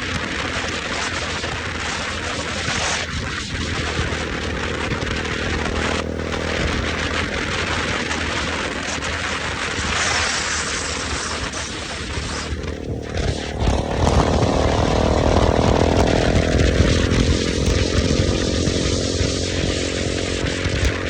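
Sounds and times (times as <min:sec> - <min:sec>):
motorcycle engine running: 0:00.0 - 0:21.0
wind noise: 0:00.0 - 0:21.0.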